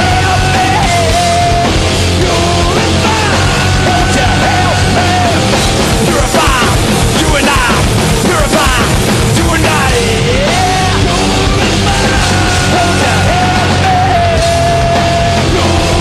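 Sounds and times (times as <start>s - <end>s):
heavy metal band playing: 0.0s - 16.0s
man singing and shouting: 0.0s - 16.0s.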